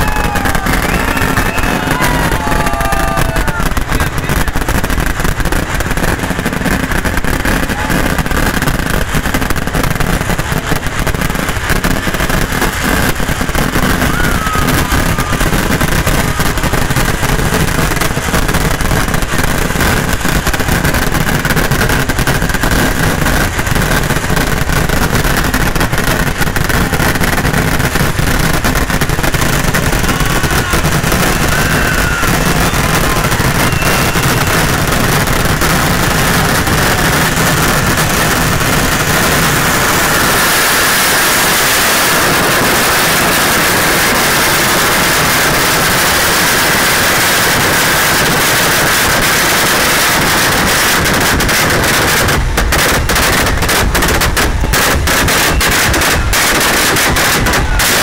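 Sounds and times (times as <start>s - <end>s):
rapid firework blasts: 0.0s - 58.0s.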